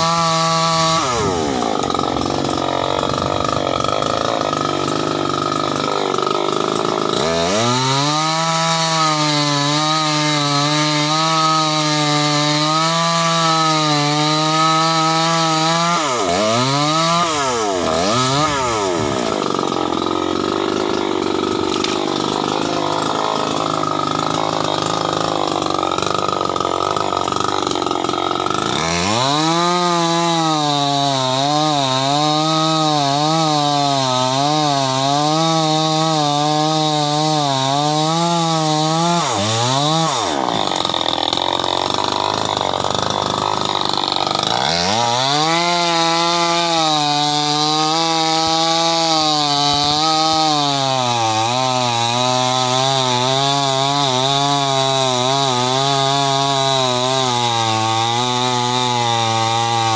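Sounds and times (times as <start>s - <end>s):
chainsaw cutting timber: 0.0s - 59.9s.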